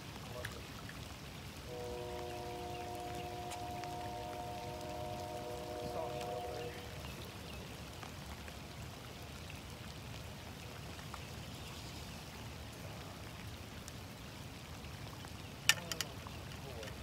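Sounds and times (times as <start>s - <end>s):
raindrops ticking: 0.0s - 17.0s
steady rain: 0.0s - 17.0s.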